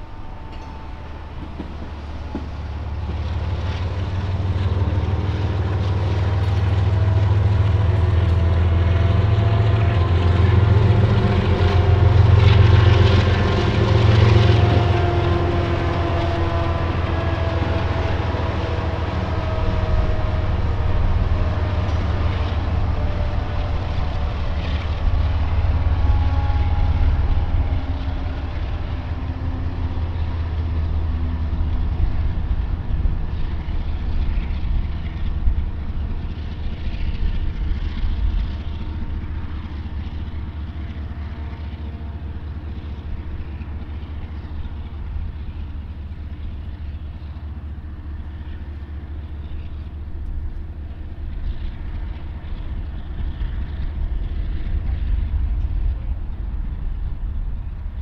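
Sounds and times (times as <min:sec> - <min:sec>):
diesel locomotive engine drone: 0:00.0 - 0:58.0
steady low rumble: 0:00.0 - 0:58.0.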